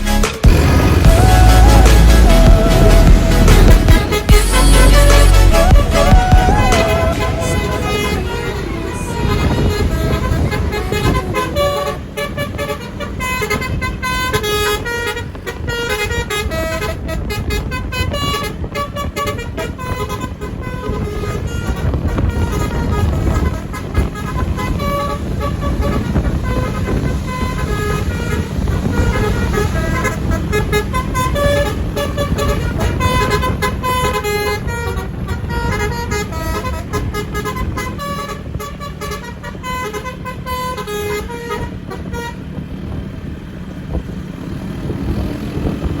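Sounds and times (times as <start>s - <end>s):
melodic bus horn tooting: 0.0s - 43.2s
steady low rumble: 0.3s - 40.7s.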